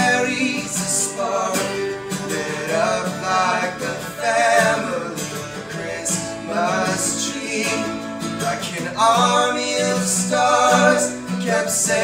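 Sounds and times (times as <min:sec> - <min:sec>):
acoustic guitar strumming: 0:00.0 - 0:12.0
men singing long notes: 0:00.0 - 0:12.0.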